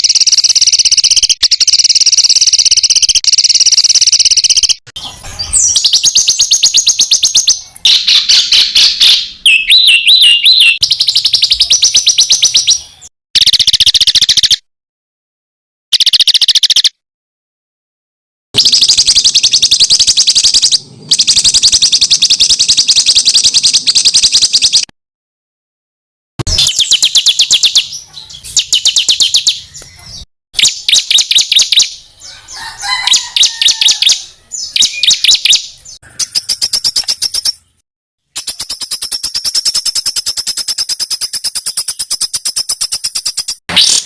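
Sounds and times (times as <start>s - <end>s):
songbird singing rapid high notes: 0.0s - 14.6s, 15.9s - 17.0s, 18.6s - 24.9s, 26.4s - 32.2s, 32.9s - 44.0s.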